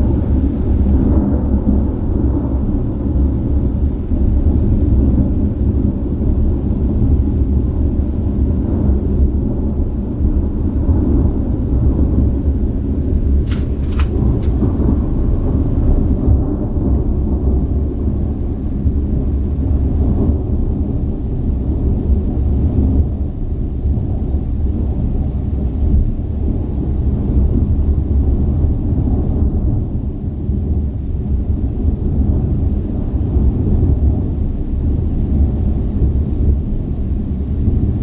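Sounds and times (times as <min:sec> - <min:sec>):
rolling thunder: 0:00.0 - 0:38.0.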